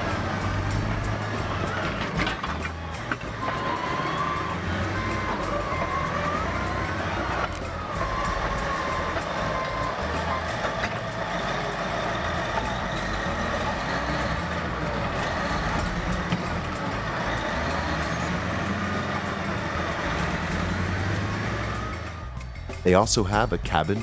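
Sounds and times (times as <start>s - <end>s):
small clicks and clanks: 0.0s - 22.7s
bulldozer diesel engine running: 0.0s - 24.0s.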